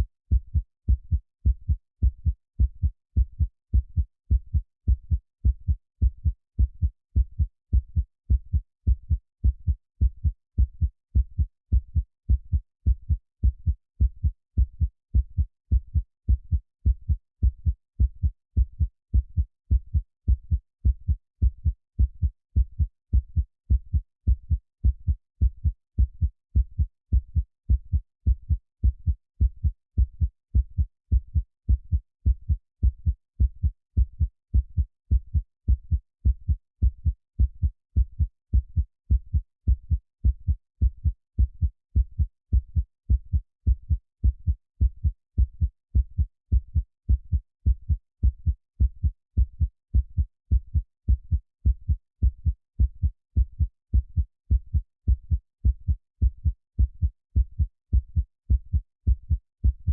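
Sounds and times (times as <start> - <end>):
heartbeat: 0.0 - 59.9.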